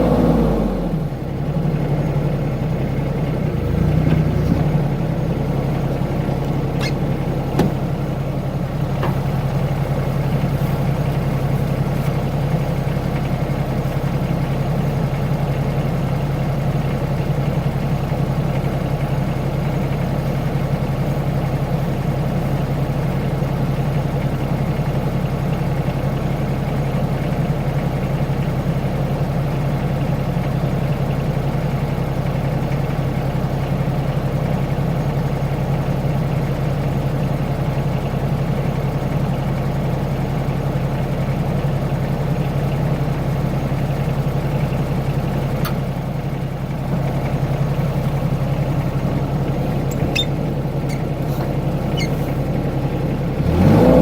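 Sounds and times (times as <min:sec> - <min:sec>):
excavator engine idling: 0:00.0 - 0:54.0.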